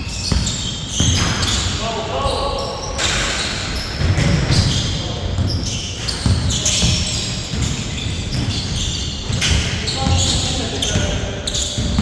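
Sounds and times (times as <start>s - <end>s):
basketball bouncing on hard court: 0.1s - 1.7s, 4.0s - 12.0s.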